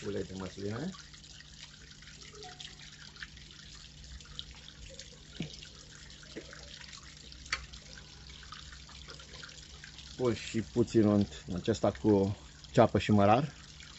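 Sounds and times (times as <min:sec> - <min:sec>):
fountain water trickling: 0:00.0 - 0:13.9
low steady hum: 0:00.0 - 0:13.9.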